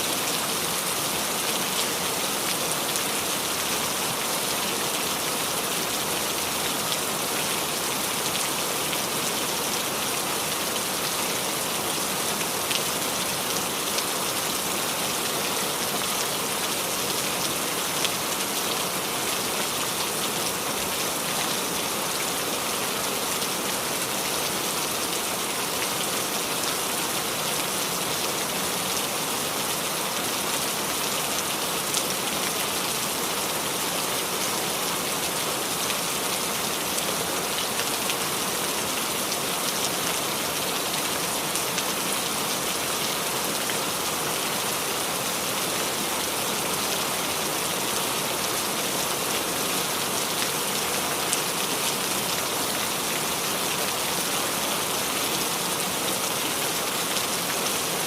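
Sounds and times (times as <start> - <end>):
rain on leaves: 0.0 - 58.0.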